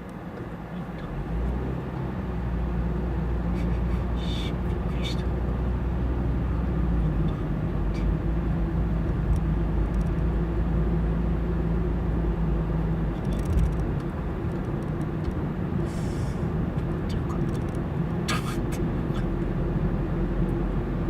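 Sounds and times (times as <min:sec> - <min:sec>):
car engine and tyre drone: 0:00.0 - 0:21.0.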